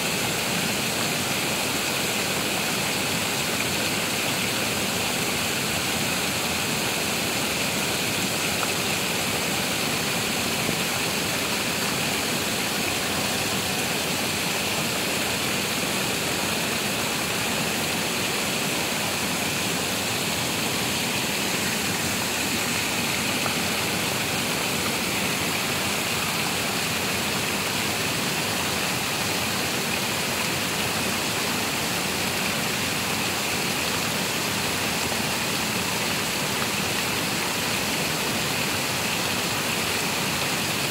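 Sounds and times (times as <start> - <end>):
water roaring through a weir: 0.0 - 40.9.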